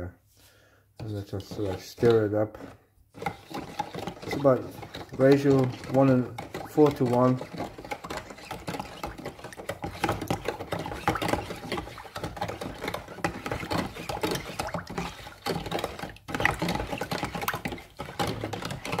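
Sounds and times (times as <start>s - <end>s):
teaspoon scraping plastic tub: 1.0s - 19.0s.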